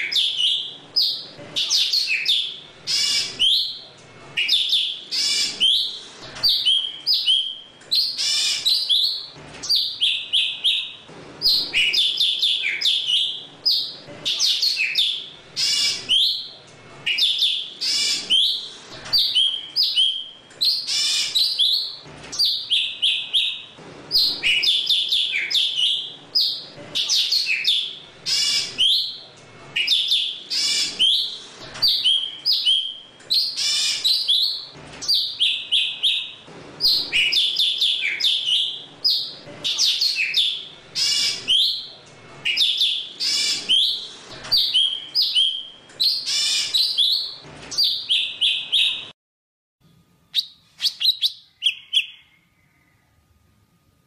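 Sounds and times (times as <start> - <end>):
bird chirps and whistles: 0.0 - 3.8, 4.4 - 16.5, 17.1 - 29.2, 29.8 - 49.1, 50.3 - 52.5.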